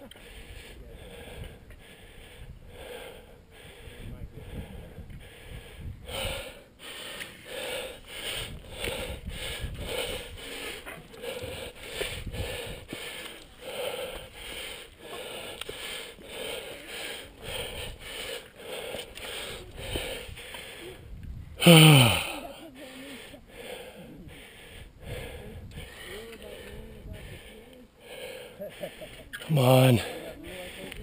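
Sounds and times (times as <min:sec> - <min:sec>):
person panting heavily: 0:00.1 - 0:31.0.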